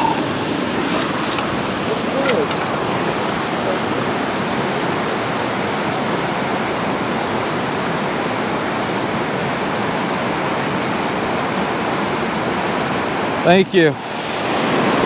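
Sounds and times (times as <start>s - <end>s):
water rushing through spillway: 0.0s - 15.0s.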